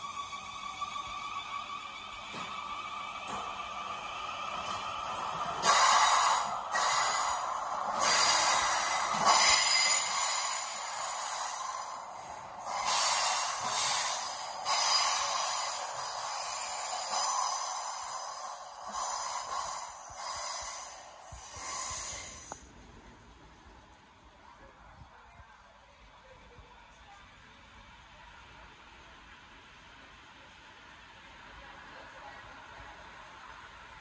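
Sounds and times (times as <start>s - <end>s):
train rail and wheel noise: 0.0s - 34.0s.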